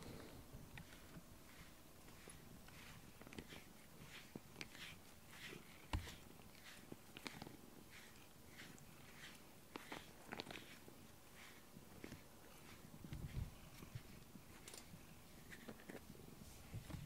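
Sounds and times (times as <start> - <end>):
rubber brush through cat fur: 0.0 - 17.0.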